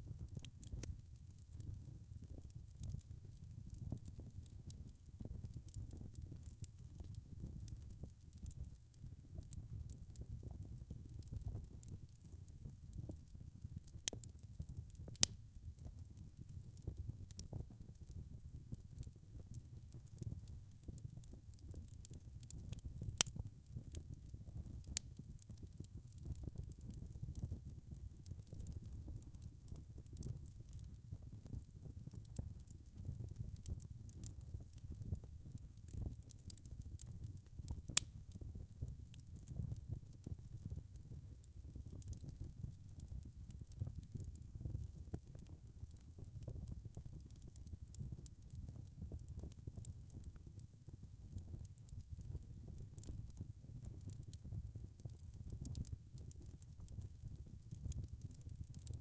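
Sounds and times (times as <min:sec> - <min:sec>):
wood fire crackling: 0:00.1 - 0:59.0
fire popping: 0:09.4 - 0:18.1, 0:19.0 - 0:59.0.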